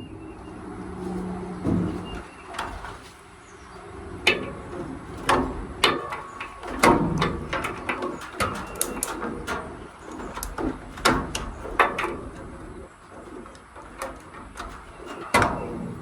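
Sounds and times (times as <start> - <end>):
metal panels knocking and clanking: 0.5 - 16.0.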